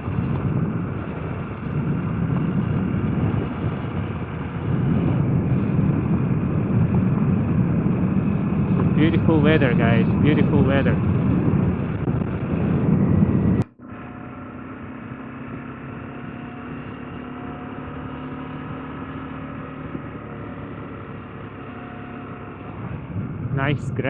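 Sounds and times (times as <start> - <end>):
motorcycle engine and riding noise: 0.0 - 24.0.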